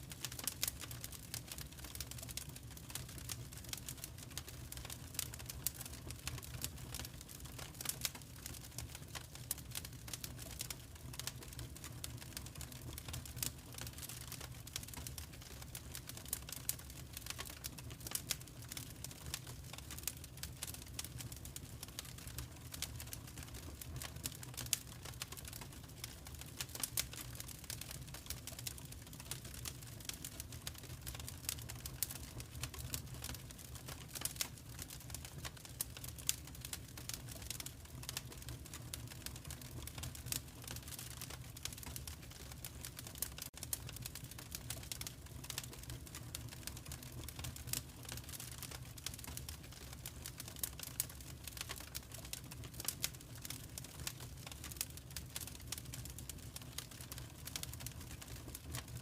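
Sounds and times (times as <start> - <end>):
wood fire crackling: 0.0 - 59.0
low fire rumble: 0.1 - 59.0.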